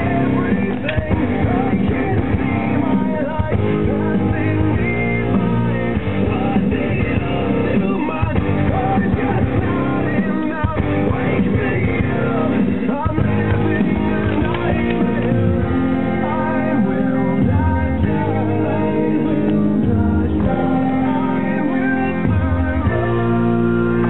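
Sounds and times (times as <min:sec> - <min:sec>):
rock song with guitar and singing: 0:00.0 - 0:24.0.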